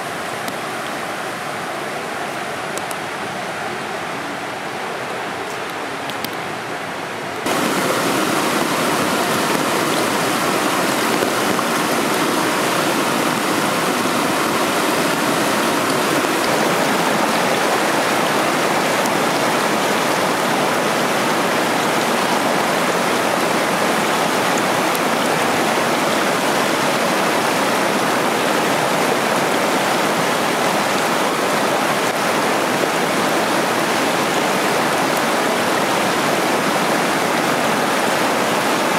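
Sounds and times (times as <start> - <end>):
waterfall rushing and splashing: 0.0 - 38.9.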